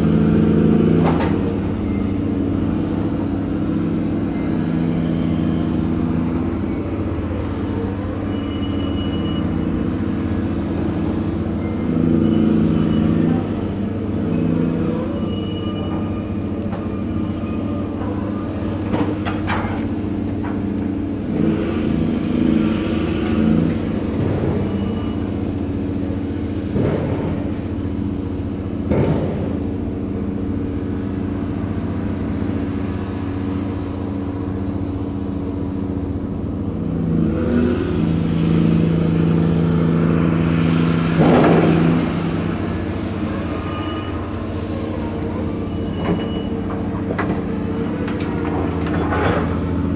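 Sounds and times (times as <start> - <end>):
crane machinery running: 0.0 - 49.9
ship engine running: 0.0 - 49.9.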